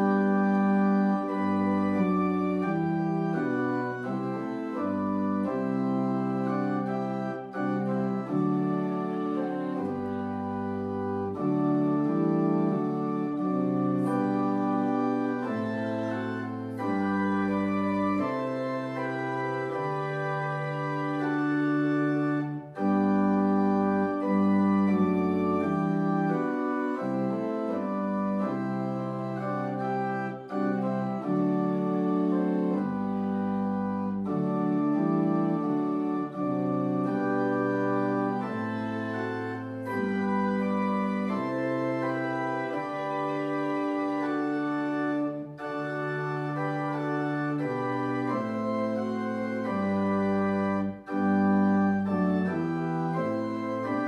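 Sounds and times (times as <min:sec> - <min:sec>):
church organ playing hymn: 0:00.0 - 0:54.0.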